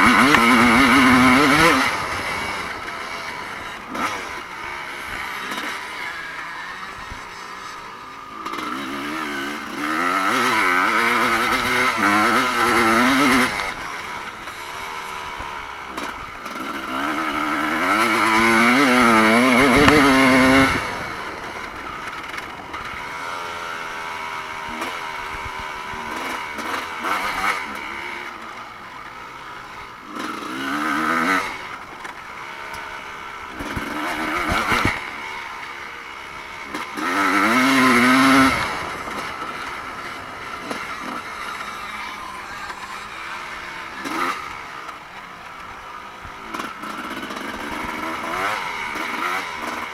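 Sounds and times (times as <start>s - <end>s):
motocross bikes revving: 0.0s - 49.9s.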